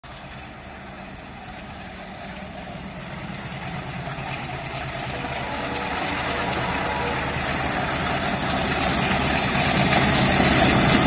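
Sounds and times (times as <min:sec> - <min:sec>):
diesel locomotive engine throb: 0:00.0 - 0:11.0.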